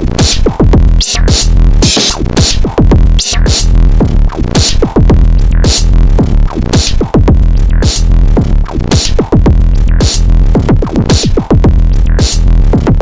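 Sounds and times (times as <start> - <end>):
heavy sub-bass: 0.0 - 13.0.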